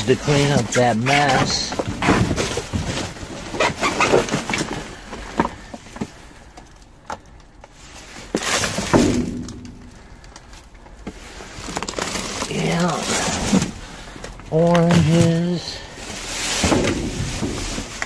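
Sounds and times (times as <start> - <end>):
packaging clattering in dumpster: 0.0 - 18.0.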